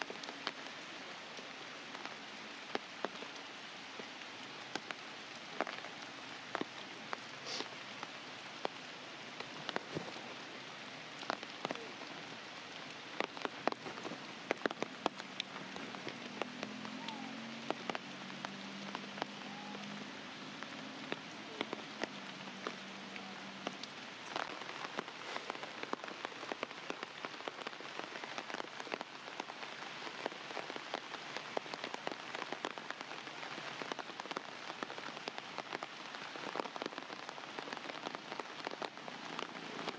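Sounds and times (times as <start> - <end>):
raindrops ticking on a surface: 0.0 - 39.9.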